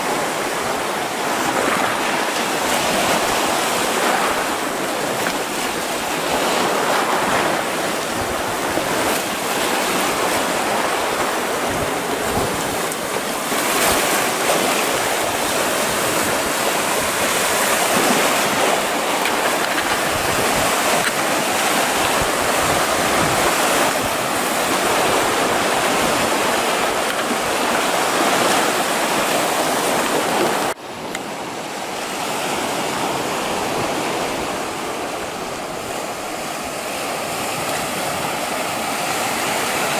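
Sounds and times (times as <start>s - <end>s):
sea waves washing over sand: 0.0s - 39.9s.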